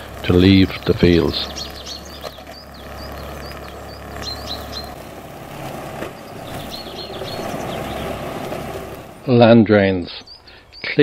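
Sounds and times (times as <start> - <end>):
flail mower droning: 0.0 - 11.0.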